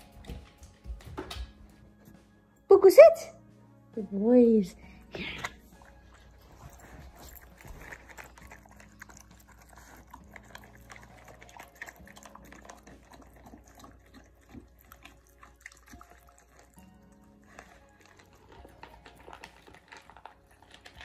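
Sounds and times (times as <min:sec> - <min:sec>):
puppies chewing and smacking: 0:00.0 - 0:01.6, 0:05.2 - 0:21.0.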